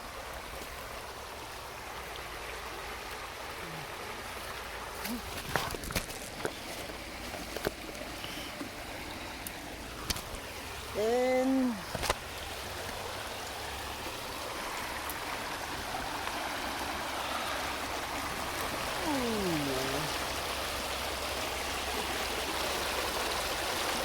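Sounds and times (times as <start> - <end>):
creek water rushing over rocks: 0.0 - 24.0.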